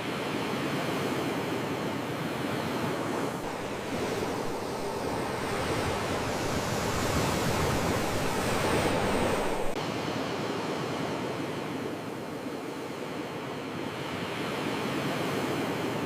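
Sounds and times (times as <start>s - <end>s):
sea waves washing on shore: 0.1s - 16.0s.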